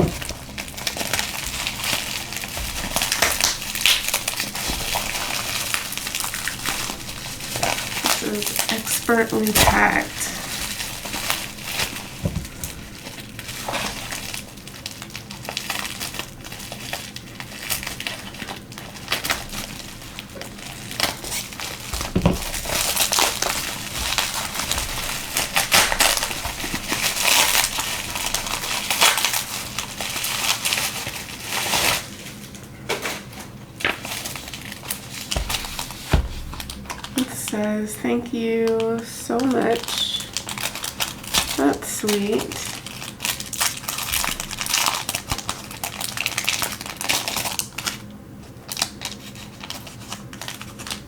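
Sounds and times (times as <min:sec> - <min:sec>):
packing material crinkling: 0:00.0 - 0:51.0.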